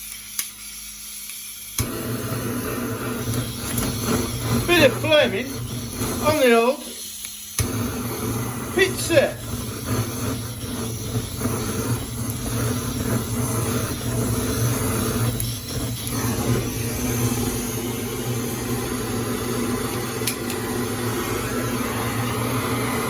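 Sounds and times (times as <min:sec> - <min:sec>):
blowtorch flame hissing: 0:00.0 - 0:23.0.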